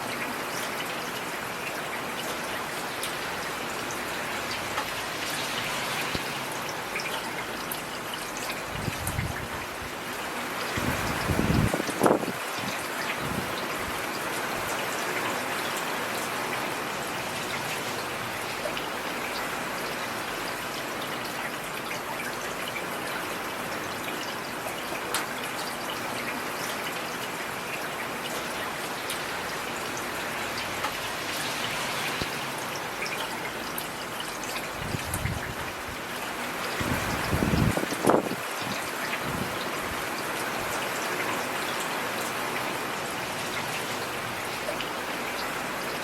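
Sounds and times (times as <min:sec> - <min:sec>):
faint ticks of raindrops: 0:00.0 - 0:46.0.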